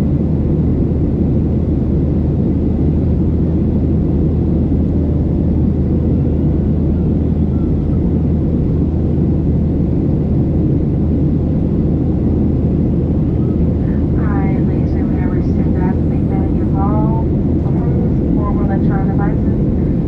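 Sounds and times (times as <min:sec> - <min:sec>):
airplane engine drone: 0:00.0 - 0:20.0
airflow past fuselage: 0:02.0 - 0:20.0.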